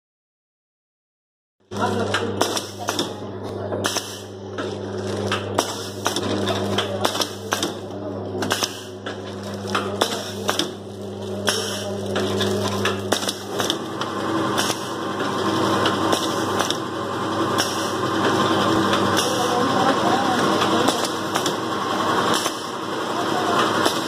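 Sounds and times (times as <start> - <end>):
packing machine clacking: 1.7 - 24.0.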